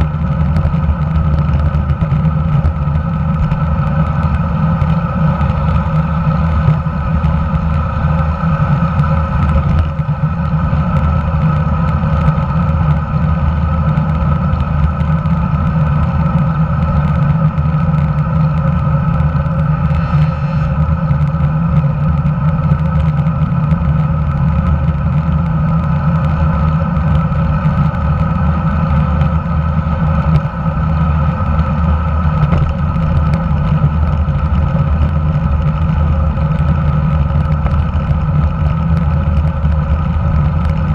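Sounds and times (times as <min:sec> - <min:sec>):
road vibration rumble: 0:00.0 - 0:40.9
wind noise: 0:00.0 - 0:40.9.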